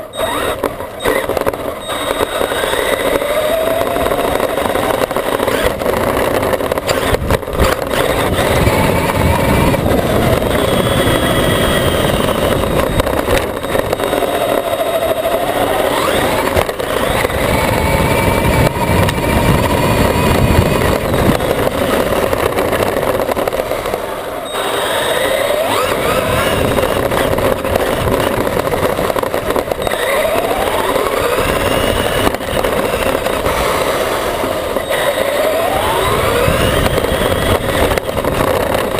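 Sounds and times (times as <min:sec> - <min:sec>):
electric motors whining: 0:00.0 - 0:38.9
tyres rumbling over ground: 0:00.0 - 0:38.9.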